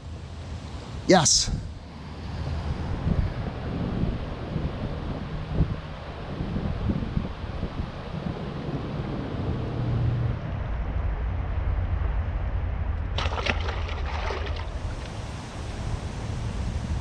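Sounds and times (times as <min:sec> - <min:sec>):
wind buffeting microphone: 0:01.4 - 0:17.0.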